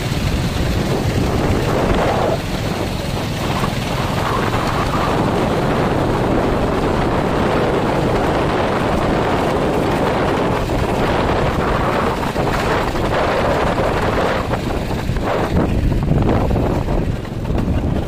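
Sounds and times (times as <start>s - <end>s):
motorcycle engines running: 0.0s - 18.0s
wind buffeting microphone: 0.0s - 18.0s.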